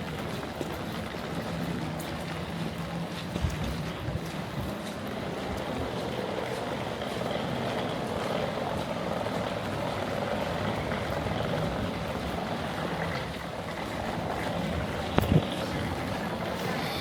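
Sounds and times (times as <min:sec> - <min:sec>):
rain on a street: 0:00.0 - 0:17.0.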